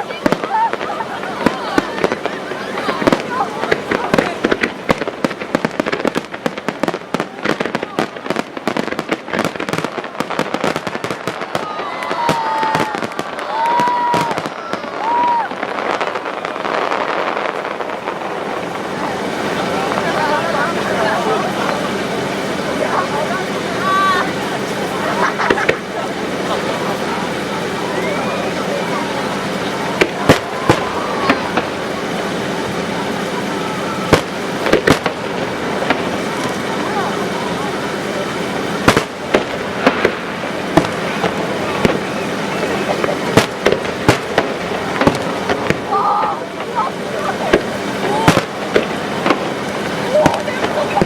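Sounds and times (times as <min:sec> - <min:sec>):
crowd noise: 0:00.0 - 0:51.0
fireworks crackling and popping: 0:00.0 - 0:51.0.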